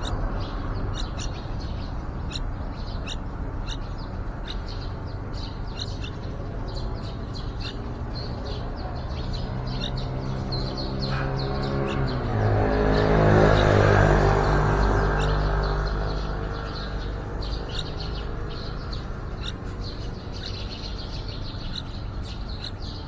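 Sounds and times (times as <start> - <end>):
birds chirping: 0.0 - 23.0
low engine hum: 0.0 - 23.0.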